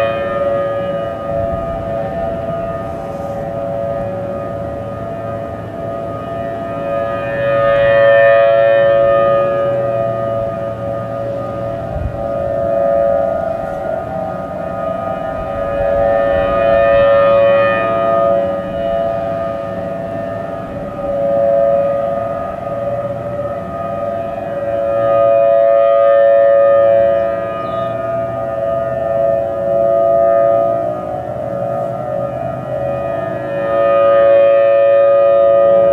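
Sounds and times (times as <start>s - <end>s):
mechanical warning sirens: 0.0s - 35.9s.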